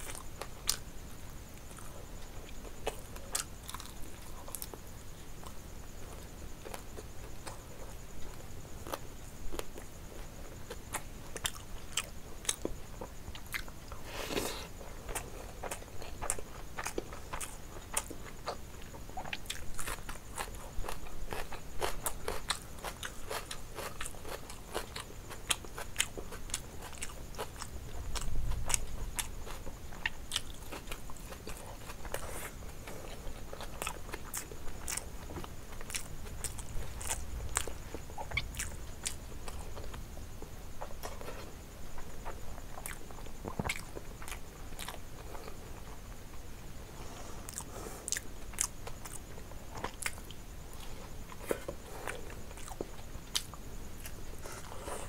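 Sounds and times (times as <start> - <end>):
person chewing and smacking: 1.6 - 4.8, 8.8 - 40.0, 40.8 - 45.6, 47.5 - 54.9.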